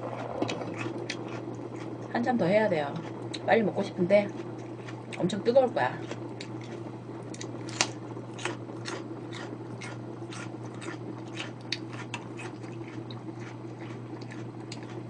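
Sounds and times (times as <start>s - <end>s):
crunching of raw vegetable chewing: 0.0s - 2.1s, 4.2s - 5.2s, 6.0s - 15.0s
steady low hum: 0.0s - 15.0s.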